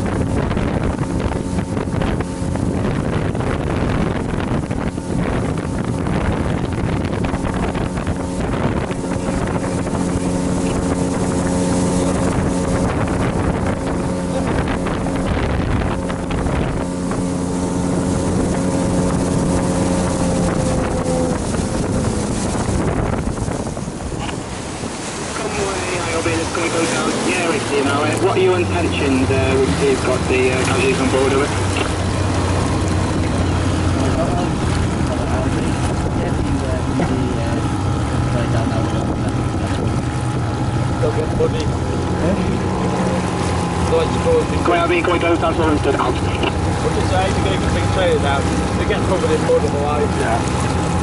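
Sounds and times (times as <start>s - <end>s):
boat engine running: 0.0s - 51.0s
wind on microphone: 0.0s - 51.0s.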